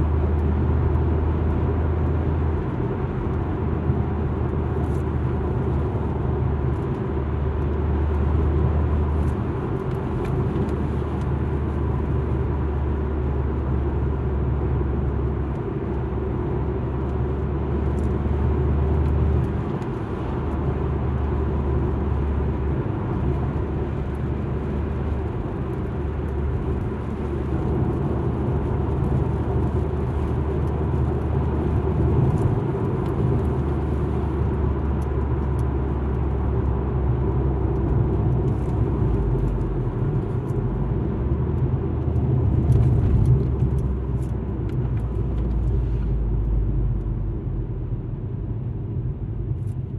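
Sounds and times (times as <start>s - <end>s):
car interior engine and road rumble: 0.0s - 49.9s.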